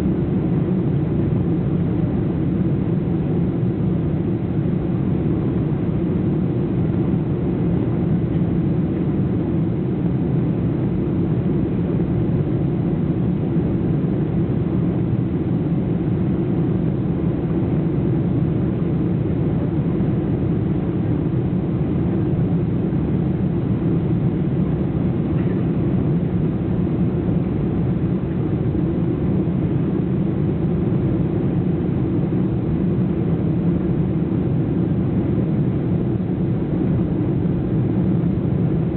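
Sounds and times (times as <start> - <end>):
airliner engines droning: 0.0 - 38.9.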